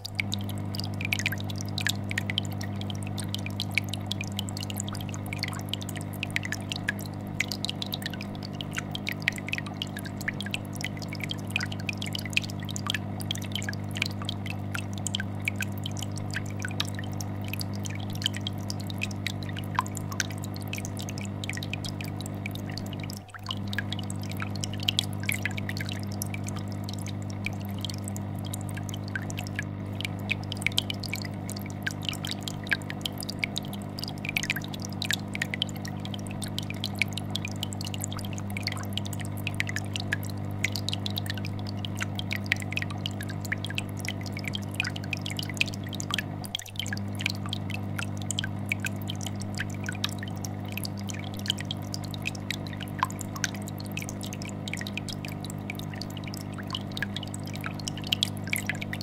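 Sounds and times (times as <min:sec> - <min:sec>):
aquarium filter humming: 0:00.0 - 0:59.0
bubbles popping: 0:00.0 - 0:59.0.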